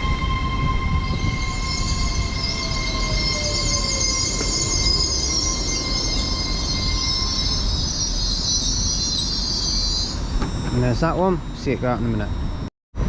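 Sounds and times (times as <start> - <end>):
train brakes high-pitched squeal: 0.0 - 12.7
train low rumble: 0.0 - 13.0.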